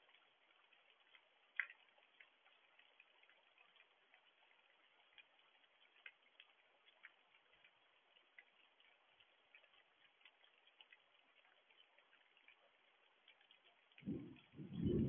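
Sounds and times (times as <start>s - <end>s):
light rain hiss: 0.0s - 15.0s
raindrops ticking: 0.0s - 15.0s.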